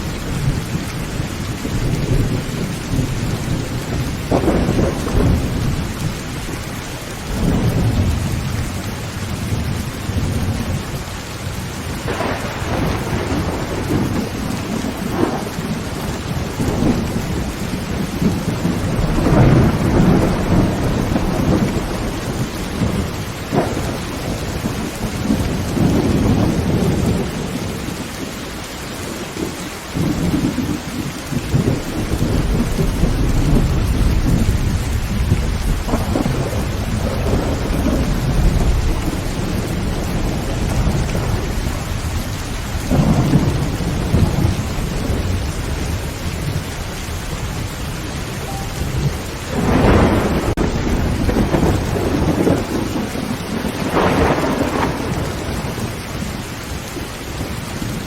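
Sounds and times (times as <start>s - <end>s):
rolling thunder: 0.0s - 28.3s, 29.2s - 58.0s
heavy rain on a tin roof: 0.0s - 58.0s.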